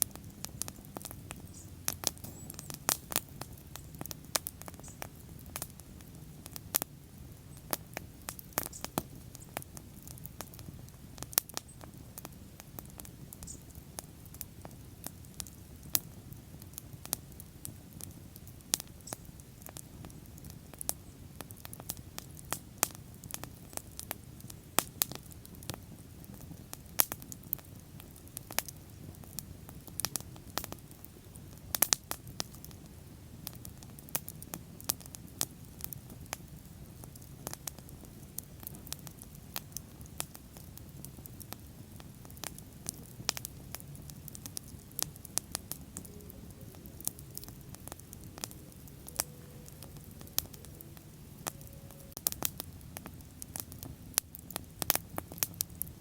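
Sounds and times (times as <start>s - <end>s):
burning wood crackling and popping: 0.0s - 56.0s
low rumble of flames: 0.0s - 56.0s.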